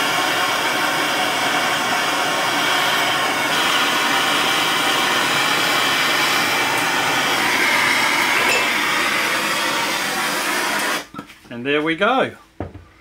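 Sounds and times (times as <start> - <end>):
gas torch flame hissing: 0.0 - 11.2.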